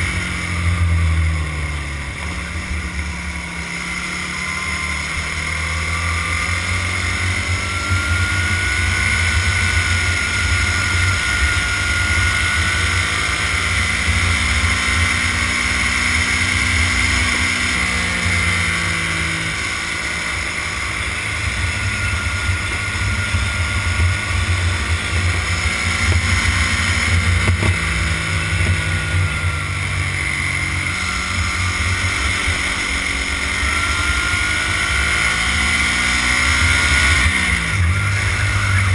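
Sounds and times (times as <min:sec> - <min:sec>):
racing kart engine: 0:00.0 - 0:38.9.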